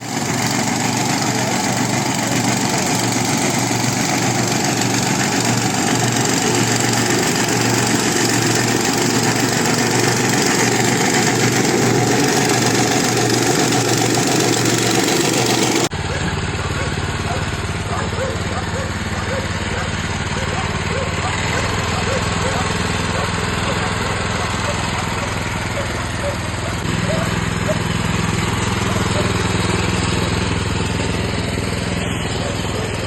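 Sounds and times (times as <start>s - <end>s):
mower engine running: 0.0s - 33.0s.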